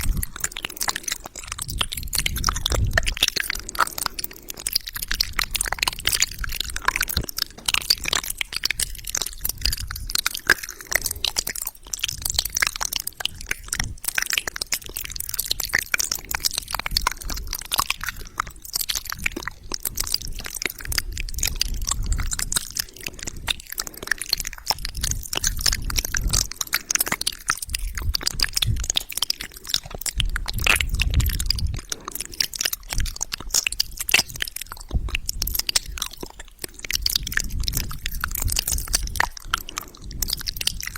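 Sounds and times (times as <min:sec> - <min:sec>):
tongue clicks and lip smacks: 0:00.0 - 0:40.9.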